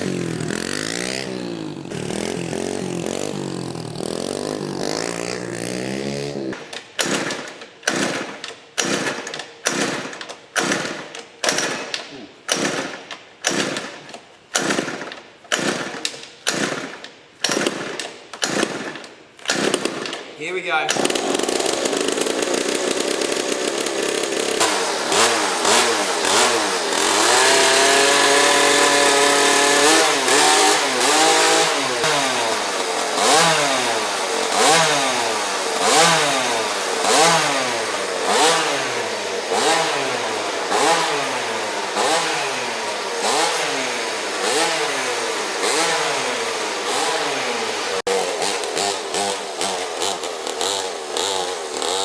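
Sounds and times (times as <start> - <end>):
small engine revving: 0.0 - 13.9, 20.8 - 52.0.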